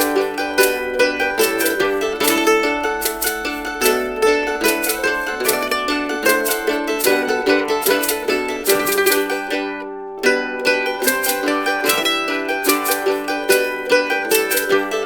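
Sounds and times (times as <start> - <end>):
mandolins playing plucked tune: 0.0 - 15.0.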